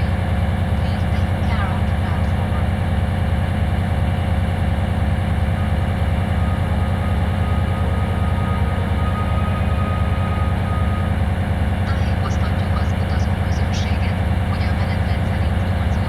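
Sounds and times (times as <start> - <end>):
diesel engine idling: 0.0 - 16.0
faint steady whine: 0.0 - 16.0.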